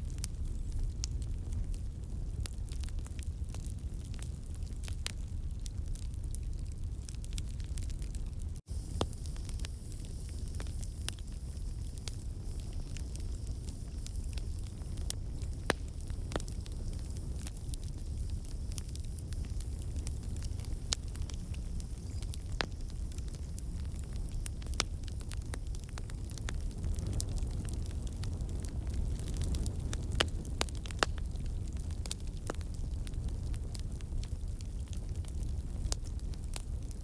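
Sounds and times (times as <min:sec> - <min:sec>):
campfire burning: 0:00.0 - 0:37.0
logs crackling and popping: 0:00.0 - 0:37.0.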